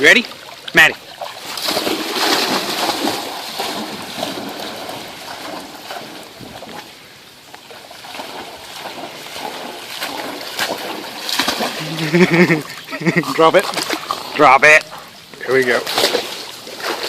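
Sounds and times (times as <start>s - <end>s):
dog splashing through water: 0.0s - 7.0s, 7.6s - 17.0s.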